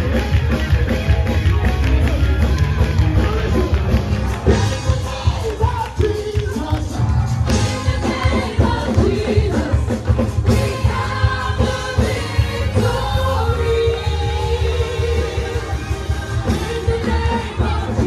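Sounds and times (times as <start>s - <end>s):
gospel singing with band: 3.2s - 18.0s.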